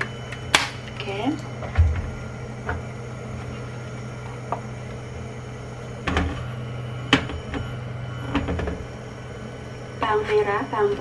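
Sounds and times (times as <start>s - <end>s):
induction cooktop hum: 0.0s - 11.0s.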